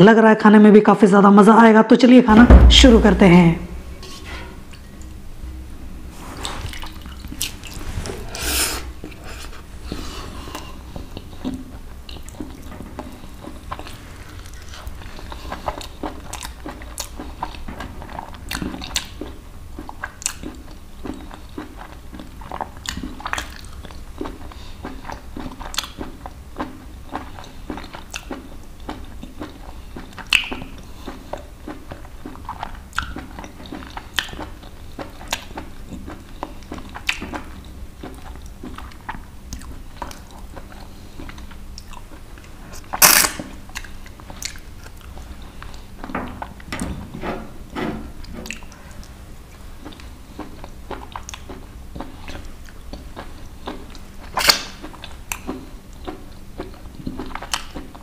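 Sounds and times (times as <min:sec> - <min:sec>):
chewing and crunching: 0:09.0 - 0:46.7, 0:48.1 - 0:58.0.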